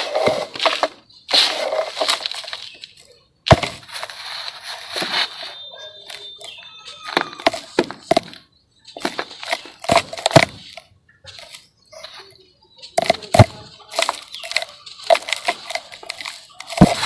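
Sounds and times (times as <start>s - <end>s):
sand-cement chunks crunching and cracking: 0.0s - 11.8s, 13.0s - 17.0s.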